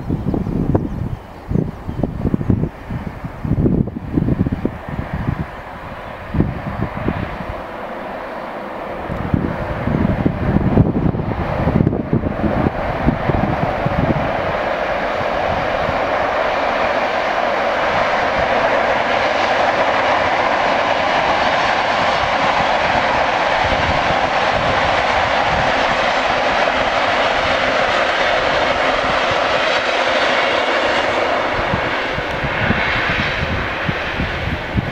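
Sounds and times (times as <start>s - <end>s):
train rumbling over bridge: 0.0s - 34.9s
wind buffeting microphone: 0.0s - 34.9s.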